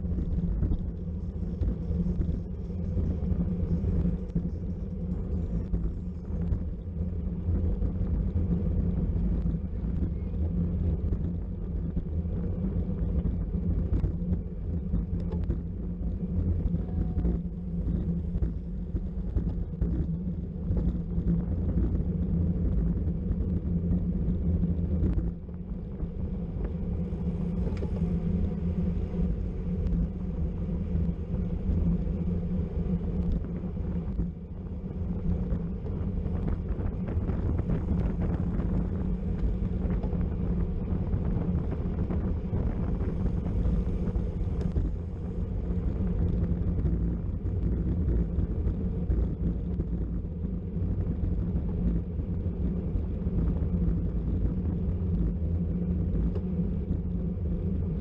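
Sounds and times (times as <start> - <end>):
wind rumbling on microphone: 0.0 - 58.0.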